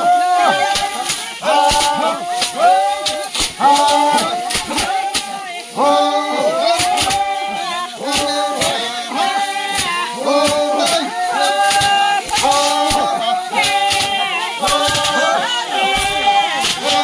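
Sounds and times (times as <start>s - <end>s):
voices singing unaccompanied: 0.0s - 17.0s.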